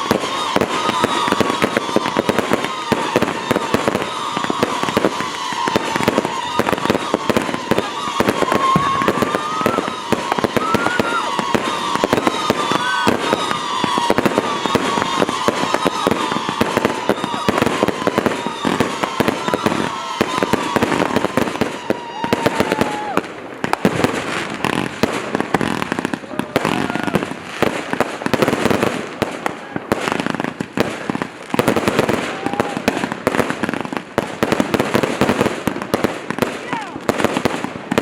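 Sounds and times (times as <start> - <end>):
firework shots and crackling bursts: 0.0 - 38.0.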